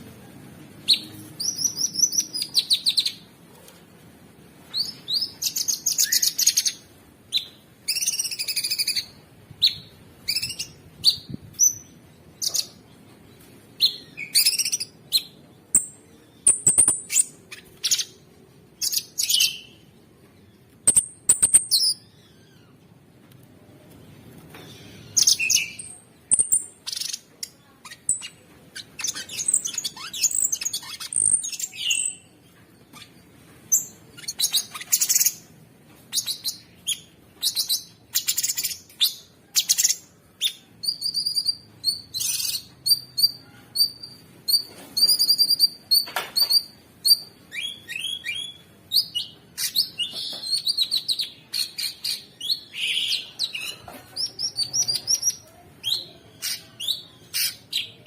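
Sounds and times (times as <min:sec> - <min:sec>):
songbird chirping and trilling: 0:00.8 - 0:03.3, 0:04.6 - 0:23.0, 0:23.9 - 0:58.0.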